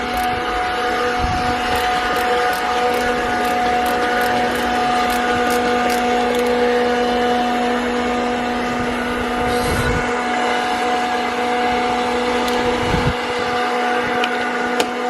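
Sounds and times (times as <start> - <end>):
steady machine hum: 0.0 - 14.8.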